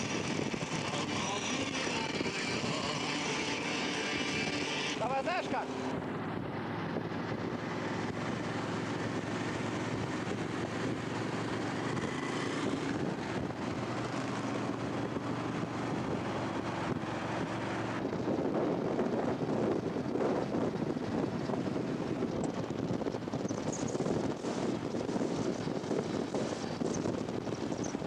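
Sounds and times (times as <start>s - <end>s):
vehicle engine drone: 0.0s - 28.0s
wind and road rush: 0.0s - 28.0s.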